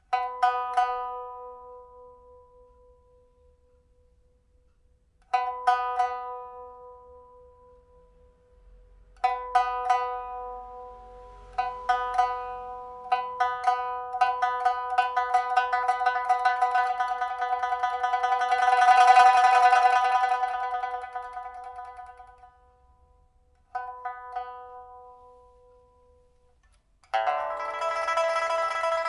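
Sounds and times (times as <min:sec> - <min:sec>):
pipa plucked notes: 0:00.0 - 0:04.1, 0:05.2 - 0:29.0.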